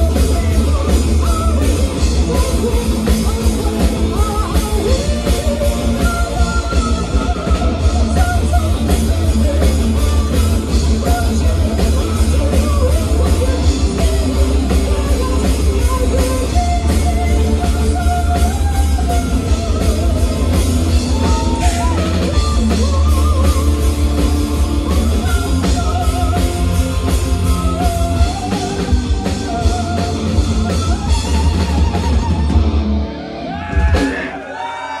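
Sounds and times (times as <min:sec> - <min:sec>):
woman singing lead vocal: 0:00.0 - 0:32.6
bass guitar: 0:00.0 - 0:34.4
distorted electric guitars: 0:00.0 - 0:34.5
fast drum kit: 0:00.0 - 0:34.5.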